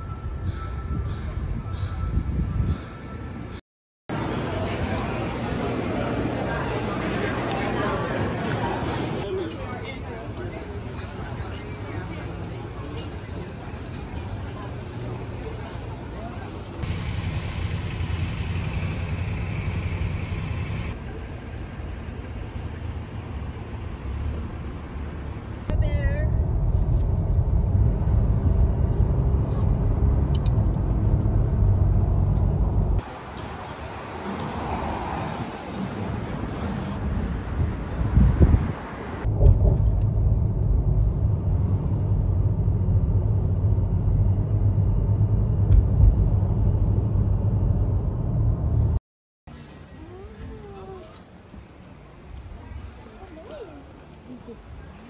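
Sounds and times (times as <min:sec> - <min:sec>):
road and engine rumble: 0:04.1 - 0:55.0.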